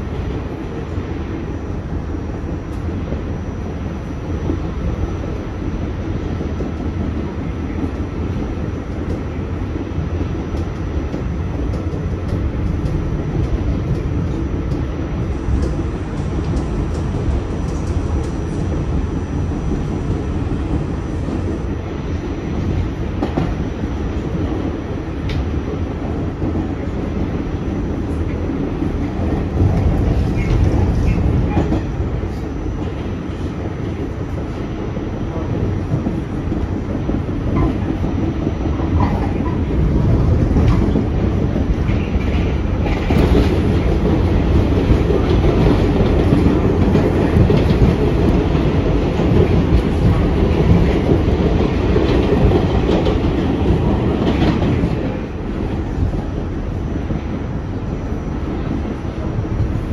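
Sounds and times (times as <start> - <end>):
subway car rumble: 0.0 - 59.9.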